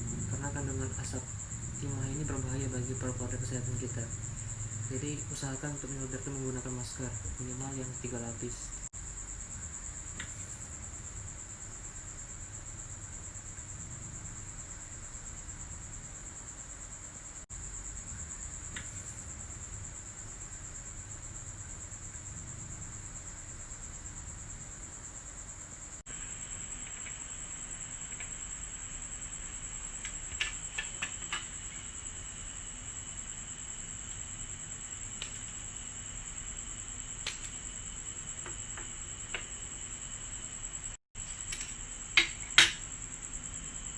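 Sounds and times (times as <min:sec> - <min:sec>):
cricket trilling: 0:00.0 - 0:43.9.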